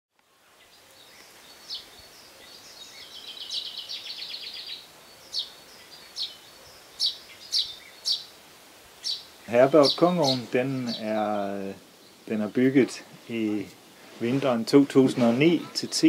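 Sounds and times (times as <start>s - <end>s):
outdoor background hiss: 0.1s - 16.0s
songbirds singing: 0.2s - 16.0s.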